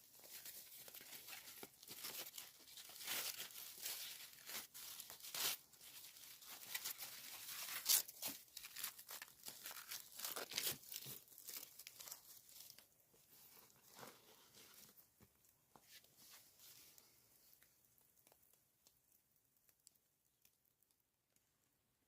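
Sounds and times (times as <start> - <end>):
crackling and rustling: 0.0 - 21.6.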